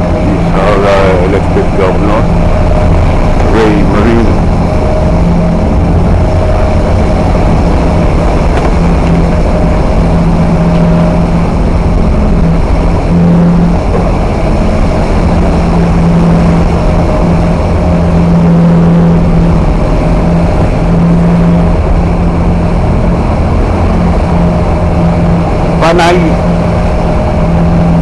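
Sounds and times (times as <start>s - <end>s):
ship engines droning: 0.0s - 28.0s
wind and sea rushing: 0.0s - 28.0s.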